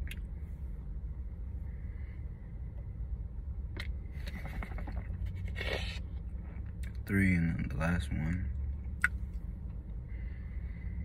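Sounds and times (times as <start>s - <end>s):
low car cabin rumble: 0.0s - 11.0s.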